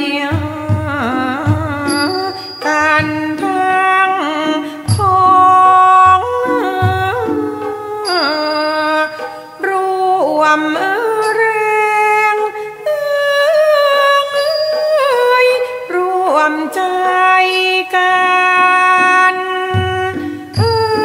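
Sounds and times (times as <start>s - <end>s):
person singing long bending notes: 0.0s - 21.0s.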